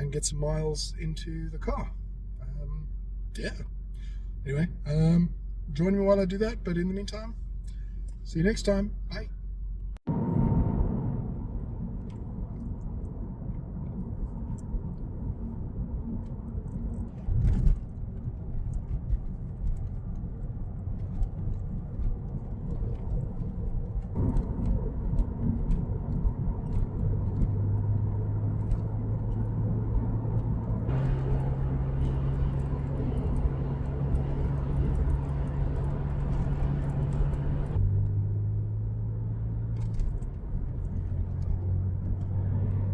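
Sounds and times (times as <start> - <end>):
steady engine tone: 0.0 - 39.6
car engine: 0.0 - 42.9
road noise: 0.0 - 42.9.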